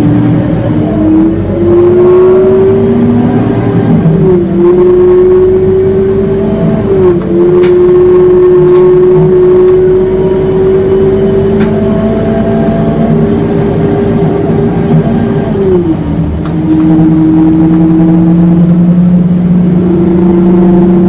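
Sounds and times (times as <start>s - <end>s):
bus engine high whine: 0.0s - 21.0s.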